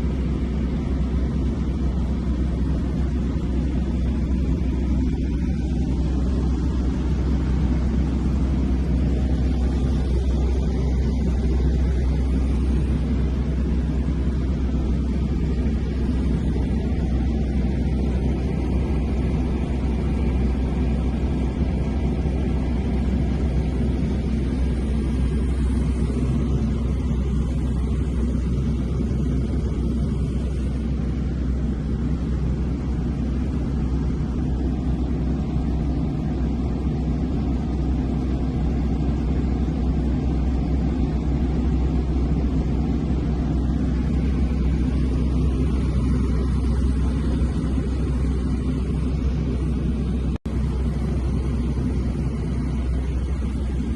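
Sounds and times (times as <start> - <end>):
small airplane engine droning: 0.0 - 53.9.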